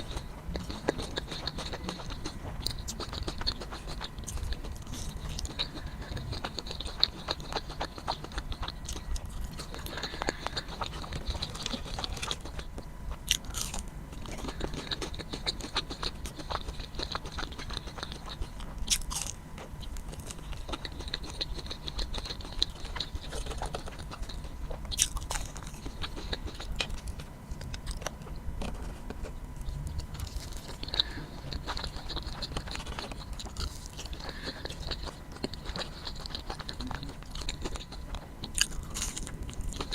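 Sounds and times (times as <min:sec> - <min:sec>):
crackly chewing: 0:00.0 - 0:39.9
crunching bites of fried food: 0:00.0 - 0:39.9.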